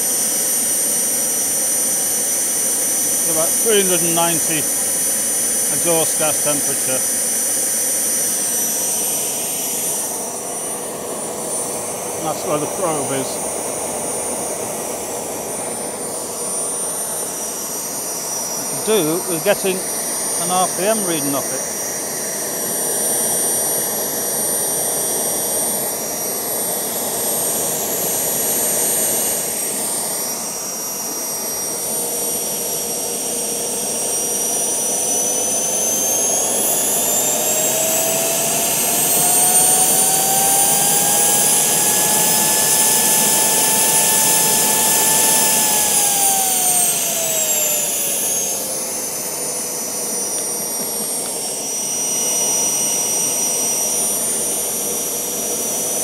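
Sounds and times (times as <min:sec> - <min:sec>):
gas turbine running with whine: 0:00.0 - 0:56.0.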